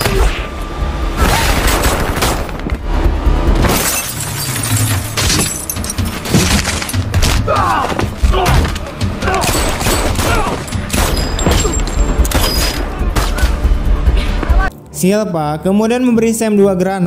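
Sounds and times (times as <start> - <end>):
action film music score: 0.0 - 17.0.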